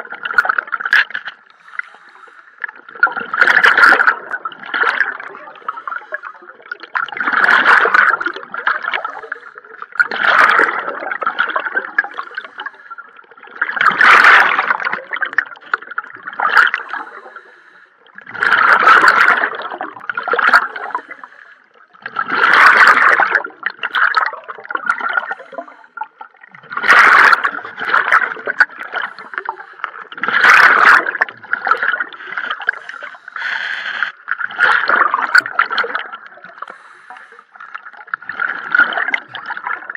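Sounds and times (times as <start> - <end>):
gurgling exhaled bubbles: 0.0 - 39.9.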